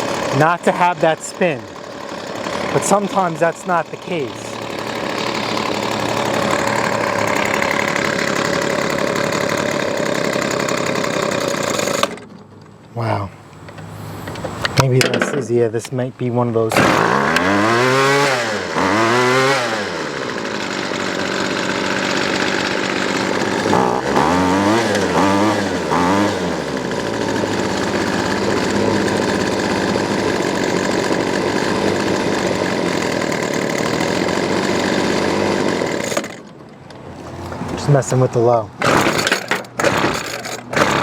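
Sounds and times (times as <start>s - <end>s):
string trimmer engine revving: 0.0s - 12.3s, 16.7s - 36.5s, 38.8s - 41.0s.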